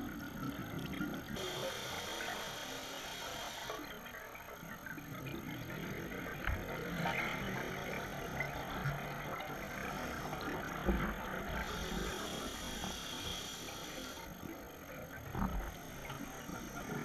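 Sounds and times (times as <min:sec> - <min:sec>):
exhaled air bubbling underwater: 0:00.0 - 0:17.0.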